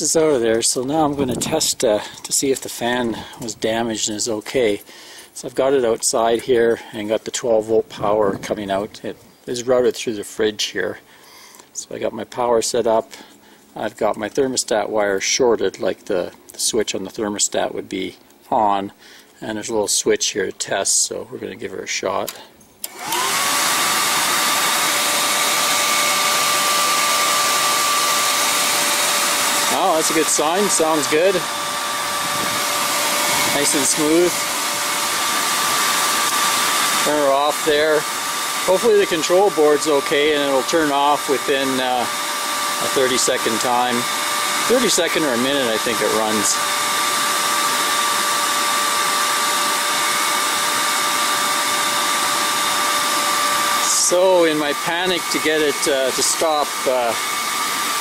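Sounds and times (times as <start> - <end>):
blower fan whining: 0.0 - 58.0.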